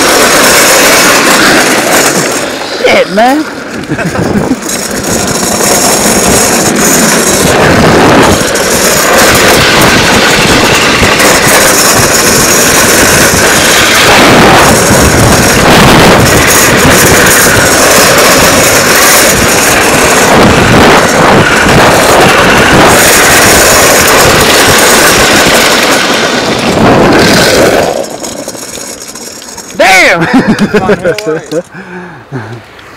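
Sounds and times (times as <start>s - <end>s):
plastic wheels sliding on asphalt: 0.0s - 31.8s.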